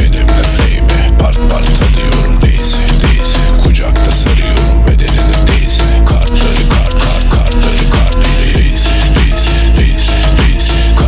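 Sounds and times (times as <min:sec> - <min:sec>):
hip hop music with heavy bass: 0:00.0 - 0:11.0.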